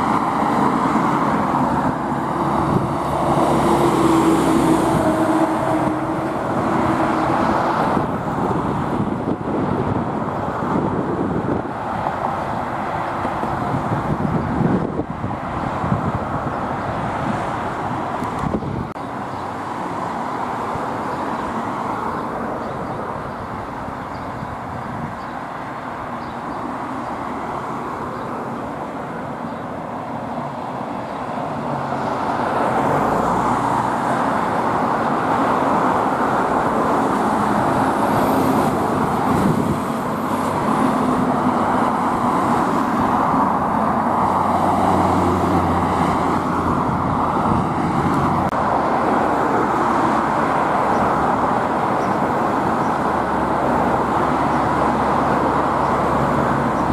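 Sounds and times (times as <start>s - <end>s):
vehicle engine drone passing: 0.0s - 8.3s, 19.0s - 56.9s
road traffic passing: 0.0s - 56.9s.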